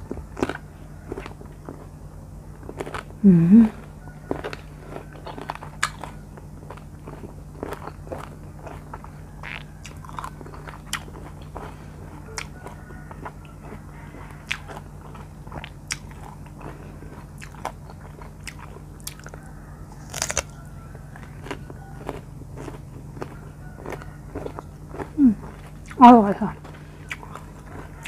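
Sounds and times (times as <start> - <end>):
wet chewing and mouth clicks: 4.2 - 28.0.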